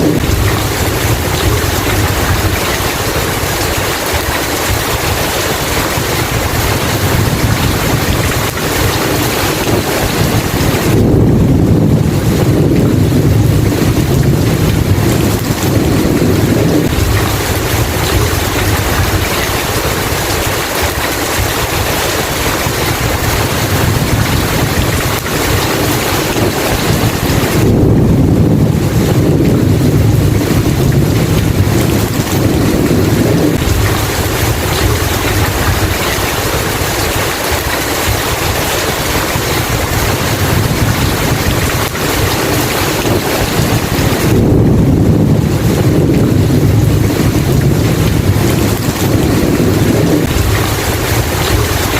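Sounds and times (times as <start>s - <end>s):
heavy rain hiss: 0.0s - 51.9s
low rolling thunder: 0.0s - 51.9s.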